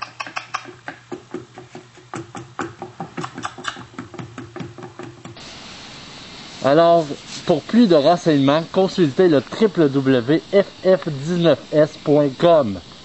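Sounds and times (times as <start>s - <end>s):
low steady hum: 0.0s - 13.0s
steady hiss: 0.0s - 13.0s.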